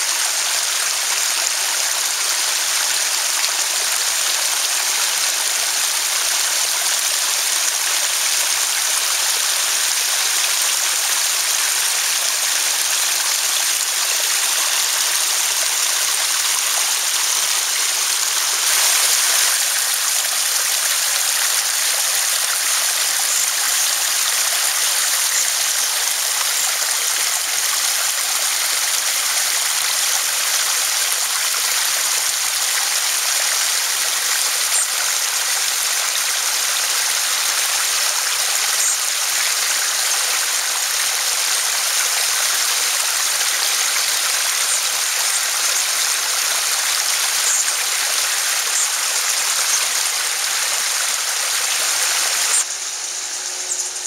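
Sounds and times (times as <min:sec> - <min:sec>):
waterfall splashing over rocks: 0:00.0 - 0:52.7.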